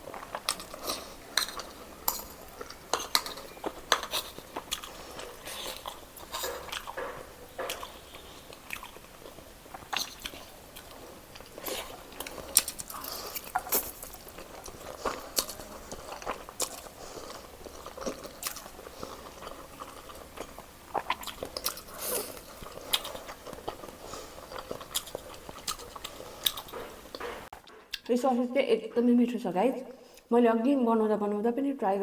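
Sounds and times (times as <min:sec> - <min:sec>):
person chewing food: 0:00.0 - 0:28.1.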